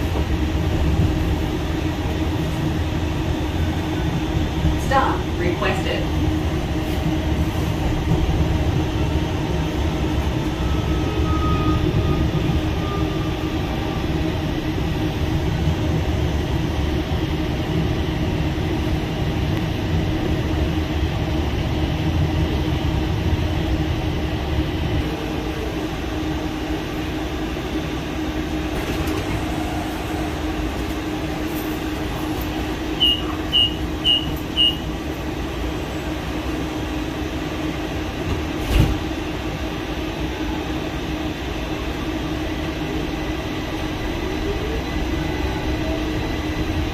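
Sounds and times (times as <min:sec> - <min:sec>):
streetcar wheels rumbling on rail: 0:00.0 - 0:46.9.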